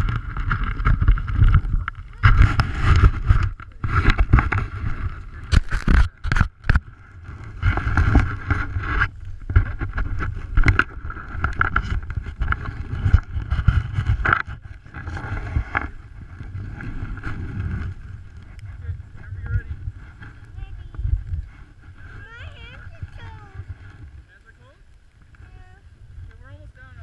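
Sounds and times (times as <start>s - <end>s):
skis scraping over snow: 0.0s - 6.2s, 7.1s - 24.7s
wind buffeting microphone: 0.0s - 27.0s.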